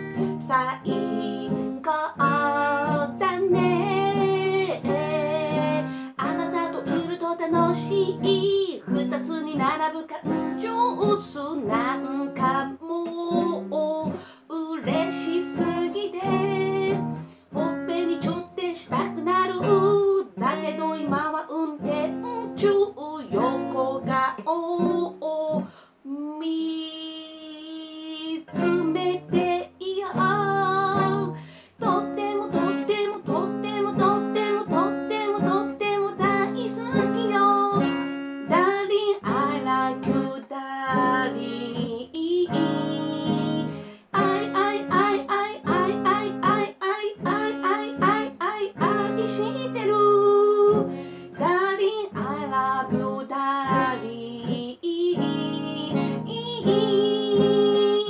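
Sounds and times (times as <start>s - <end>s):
acoustic guitar strumming: 0.0s - 25.2s, 28.5s - 58.0s
woman singing: 0.0s - 58.0s.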